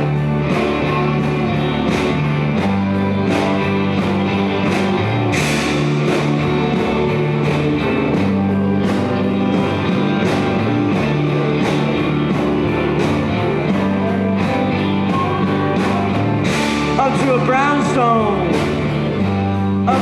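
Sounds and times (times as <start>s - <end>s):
electric guitars: 0.0s - 20.0s
steady drumbeat: 0.0s - 20.0s
sustained bass notes: 0.0s - 20.0s.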